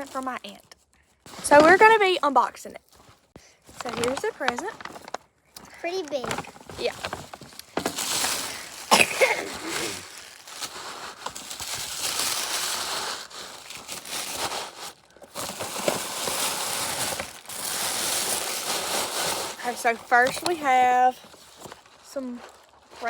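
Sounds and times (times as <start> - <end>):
packaging crinkling and rustling: 0.0 - 2.2, 2.8 - 23.0.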